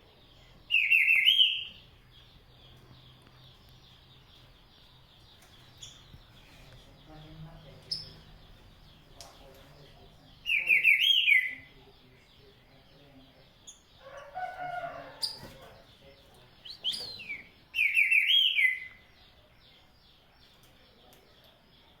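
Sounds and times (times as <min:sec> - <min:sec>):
bird singing: 0:00.0 - 0:22.0.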